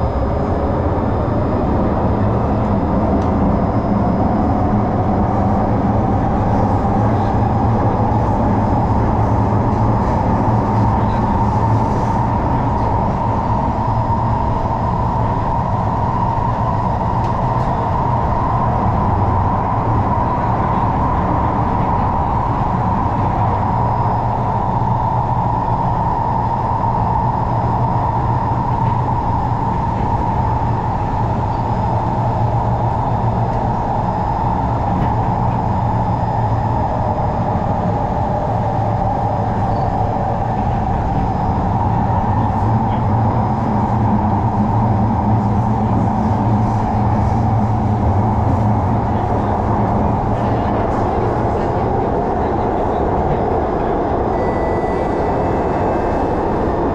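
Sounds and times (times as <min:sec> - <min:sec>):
train rumbling with whine: 0:00.0 - 0:56.9.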